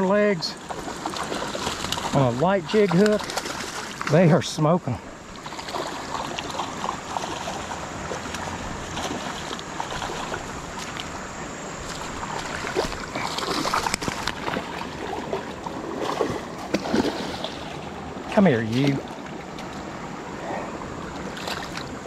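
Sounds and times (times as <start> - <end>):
rushing water: 0.0 - 22.0
fish splashing in water: 0.6 - 4.2, 5.2 - 22.0.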